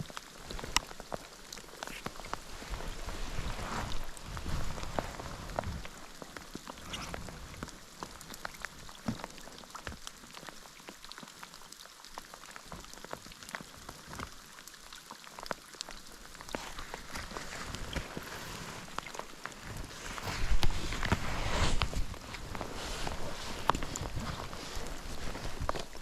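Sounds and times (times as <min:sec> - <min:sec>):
rain drops ticking: 0:00.0 - 0:26.0.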